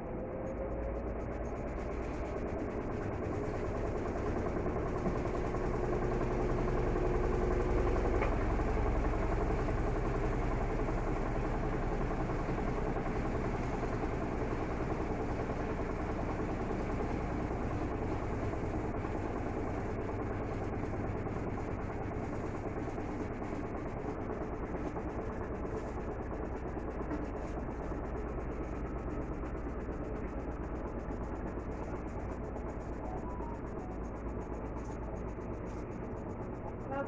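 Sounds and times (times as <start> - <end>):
washing machine spinning: 0.1 - 37.0.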